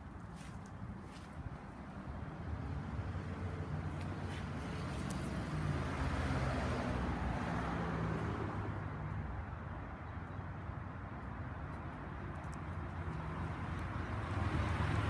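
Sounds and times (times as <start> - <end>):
vehicle passing on the street: 0.0 - 15.0.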